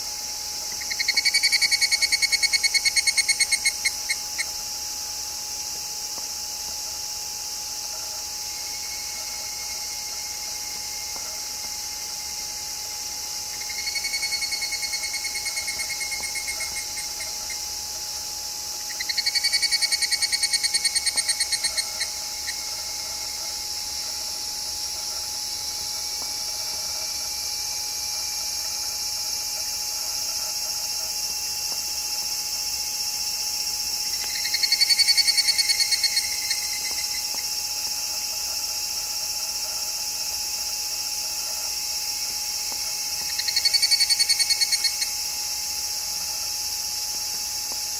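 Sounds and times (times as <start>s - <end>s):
cicada pulsing trills: 0.0s - 47.9s
high-pitched insect chorus hiss: 0.0s - 47.9s.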